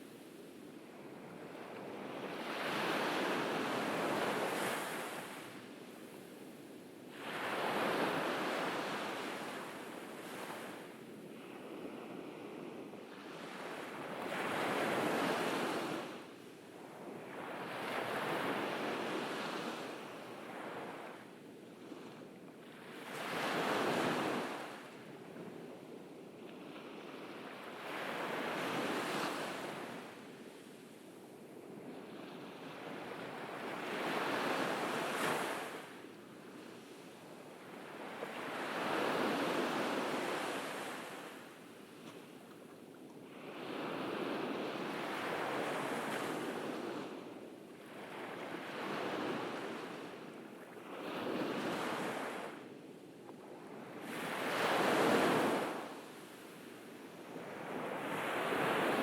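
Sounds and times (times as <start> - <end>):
ocean waves washing up a beach: 0.0 - 52.9, 53.6 - 59.0.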